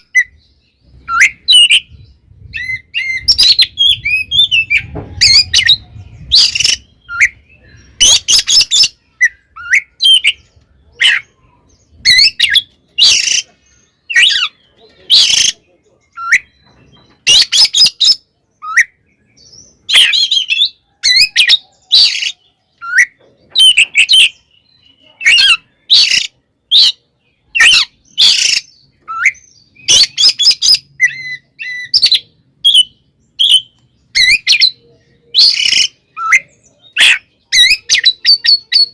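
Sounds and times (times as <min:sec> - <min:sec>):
magpie-robin harsh song: 0:00.0 - 0:38.9.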